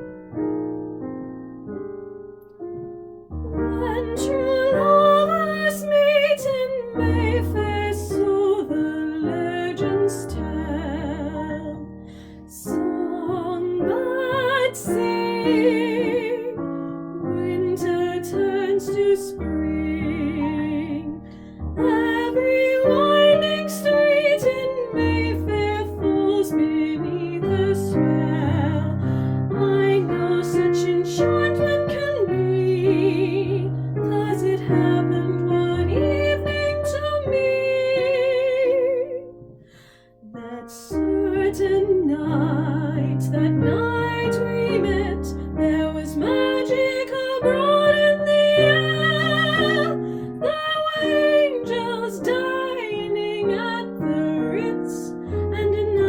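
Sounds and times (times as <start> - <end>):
slow piano ballad: 0.0 - 56.0.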